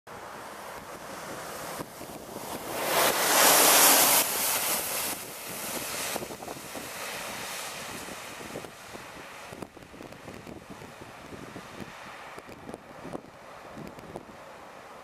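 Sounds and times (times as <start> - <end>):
truck ploughing through floodwater: 0.1 - 15.0.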